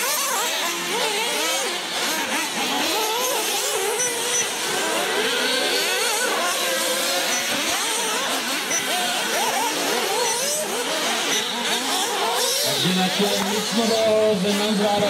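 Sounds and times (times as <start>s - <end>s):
small nitro engines revving: 0.0s - 15.0s.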